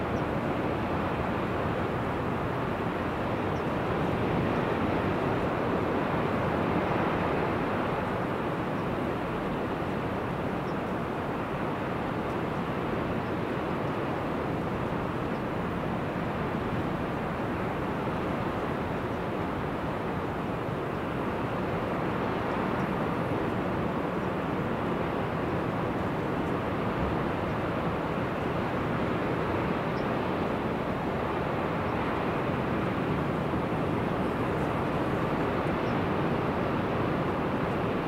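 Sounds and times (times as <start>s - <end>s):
coastal rushing wash: 0.0s - 38.0s.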